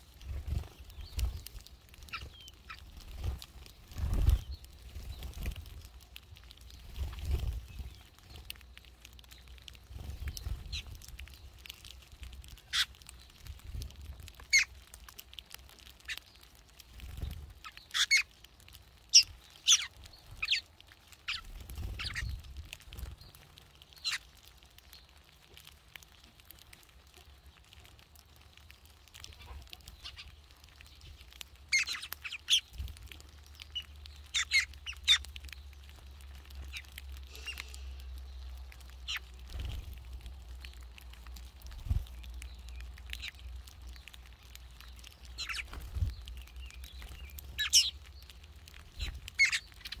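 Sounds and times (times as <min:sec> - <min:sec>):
flock of birds chirping: 0:00.0 - 0:50.0.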